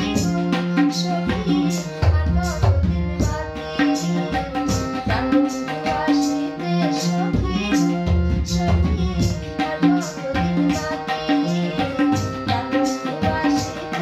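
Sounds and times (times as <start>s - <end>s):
woman singing folk song: 0.0s - 12.1s.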